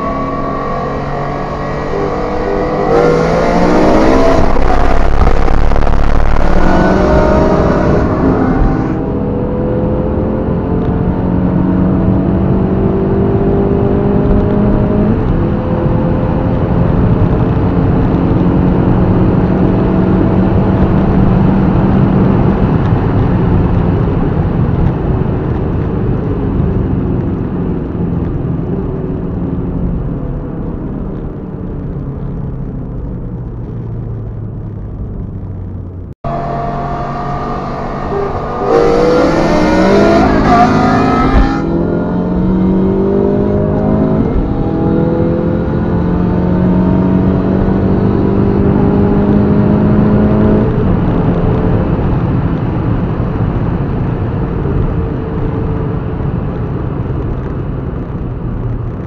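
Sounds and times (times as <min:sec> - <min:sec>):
car engine from inside cabin: 0:00.0 - 0:33.6, 0:34.2 - 0:59.0.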